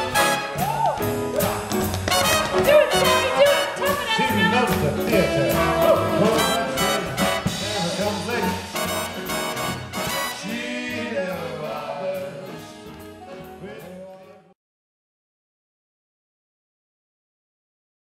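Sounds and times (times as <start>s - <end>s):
big band playing jazz: 0.0s - 14.6s
trumpets and trombones: 0.0s - 14.6s.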